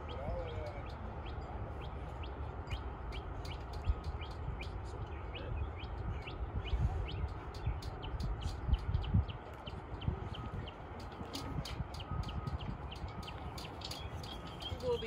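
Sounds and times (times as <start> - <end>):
steady low rumble: 0.0 - 15.0
bird chirping: 0.1 - 15.0.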